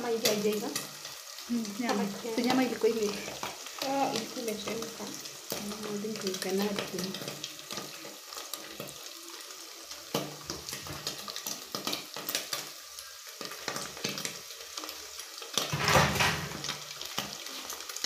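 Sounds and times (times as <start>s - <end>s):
meat and onions sizzling: 0.0s - 18.0s.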